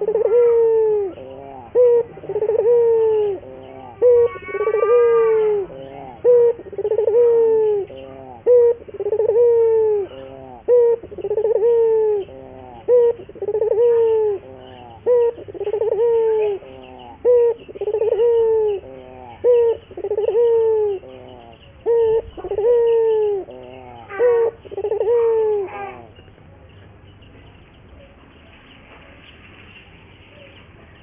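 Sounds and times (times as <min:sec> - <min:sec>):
dove cooing: 0:00.0 - 0:26.4.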